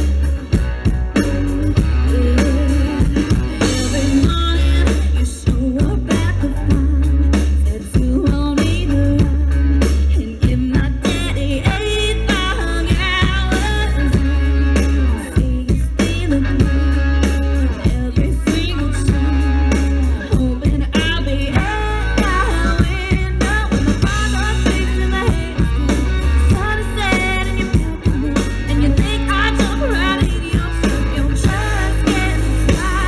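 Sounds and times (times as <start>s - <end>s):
country band with drums and guitar: 0.0s - 33.0s
woman singing into a microphone: 1.1s - 33.0s.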